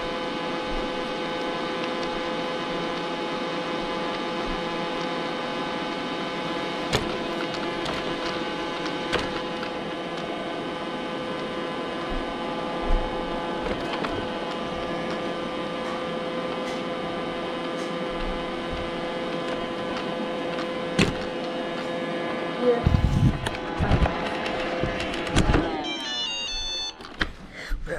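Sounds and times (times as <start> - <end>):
robot vacuum motor hum: 0.0 - 22.0, 22.6 - 27.2.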